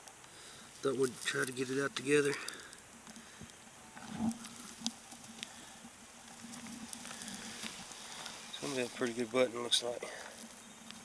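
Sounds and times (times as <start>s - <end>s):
fingers crumbling damp soil: 0.7s - 11.0s.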